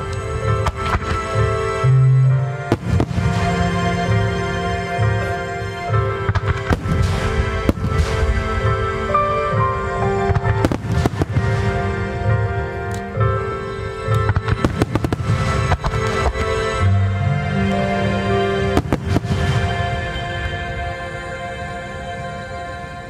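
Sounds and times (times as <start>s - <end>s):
music: 0.0s - 23.0s.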